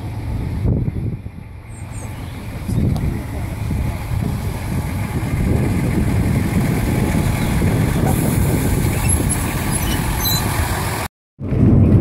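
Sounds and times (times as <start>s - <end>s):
diesel locomotive engine idling: 0.0s - 11.6s.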